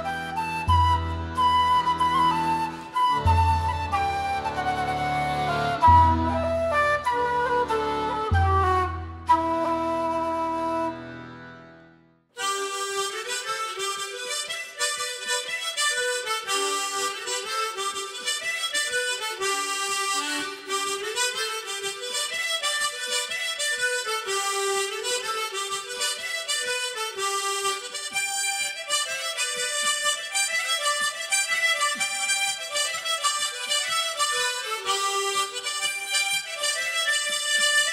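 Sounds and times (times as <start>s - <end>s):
harmonica playing lively melody: 0.0s - 11.7s, 12.4s - 37.9s.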